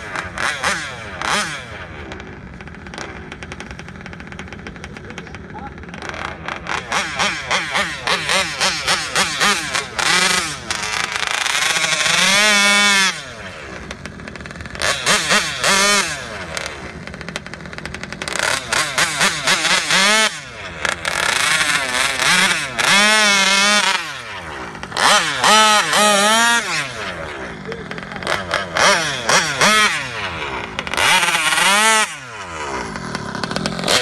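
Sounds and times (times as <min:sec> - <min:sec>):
two-stroke engine revving: 0:00.0 - 0:34.0.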